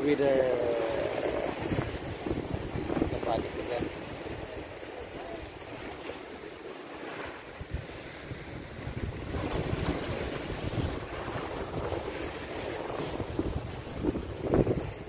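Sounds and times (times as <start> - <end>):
wind buffeting microphone: 0.0 - 6.1, 7.3 - 15.0
sea waves on rocky shore: 0.0 - 15.0.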